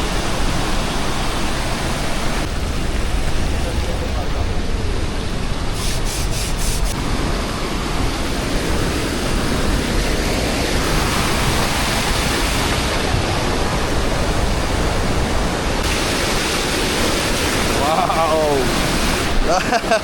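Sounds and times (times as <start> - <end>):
wind on microphone: 0.0 - 19.5
waterfall roaring: 0.0 - 20.0.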